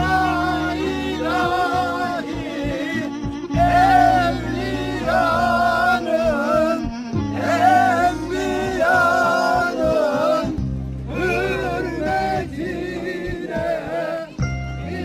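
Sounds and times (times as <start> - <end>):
solo voice singing: 0.0 - 15.0.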